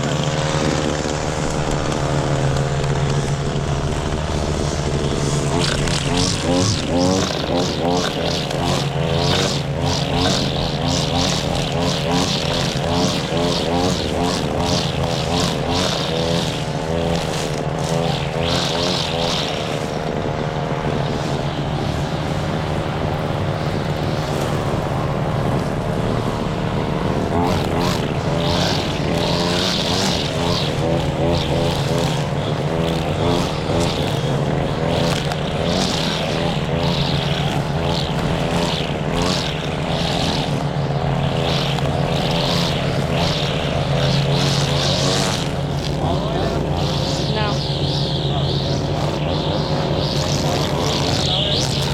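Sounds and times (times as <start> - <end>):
riding lawn mower engine: 0.0 - 51.9.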